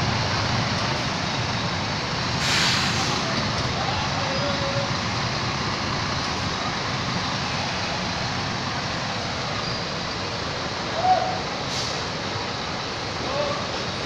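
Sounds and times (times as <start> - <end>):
bus diesel engines rumbling: 0.0 - 14.0.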